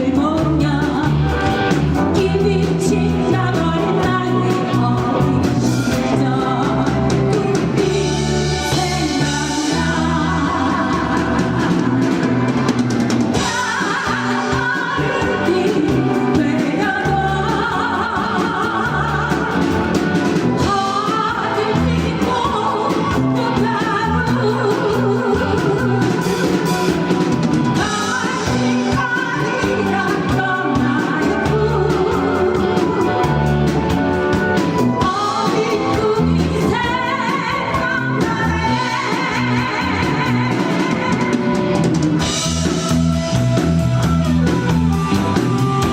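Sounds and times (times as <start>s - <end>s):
rock band with singer: 0.0s - 45.9s.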